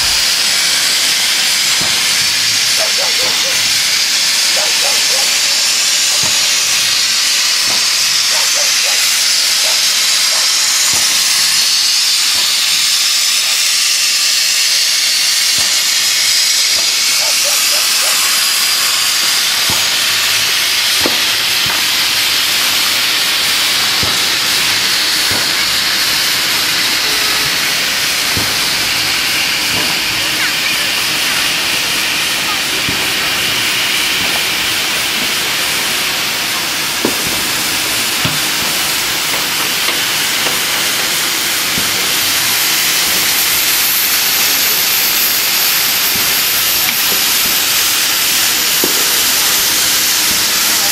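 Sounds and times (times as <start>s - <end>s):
steam locomotive hissing: 0.0s - 50.9s.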